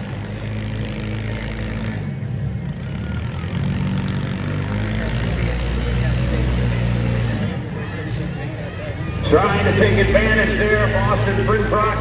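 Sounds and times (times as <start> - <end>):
car engines running: 0.0 - 12.0.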